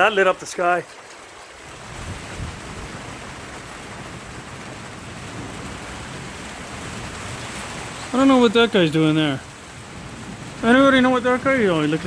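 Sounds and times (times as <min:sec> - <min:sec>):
steady rain: 0:00.0 - 0:12.0
low rumble of thunder: 0:01.7 - 0:08.5, 0:09.2 - 0:12.0.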